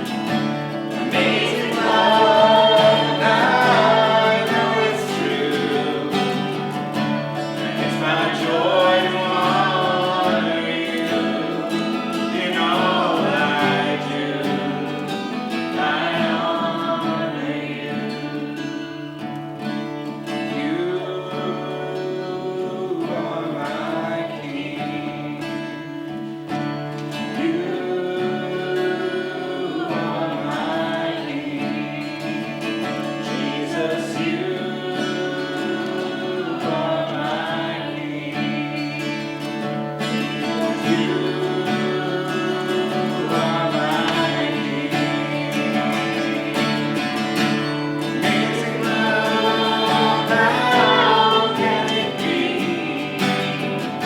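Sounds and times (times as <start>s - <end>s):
person singing: 0.0s - 19.0s, 20.3s - 25.8s, 27.3s - 54.0s
acoustic guitar strumming: 0.0s - 54.0s.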